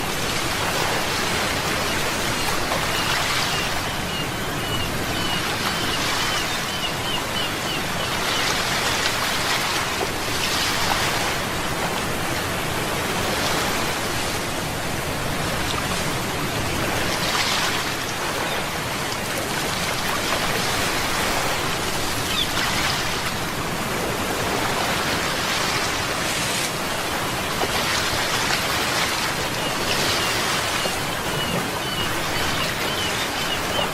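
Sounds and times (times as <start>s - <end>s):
sea waves washing ashore: 0.0s - 33.9s.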